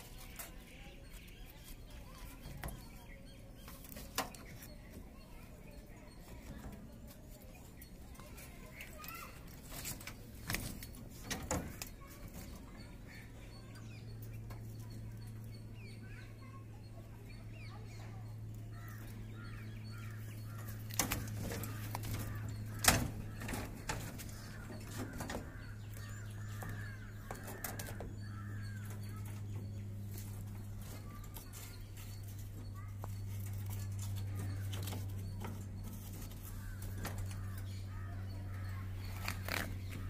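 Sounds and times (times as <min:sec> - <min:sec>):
birds calling: 0:00.0 - 0:40.0
steady low hum: 0:00.0 - 0:40.0.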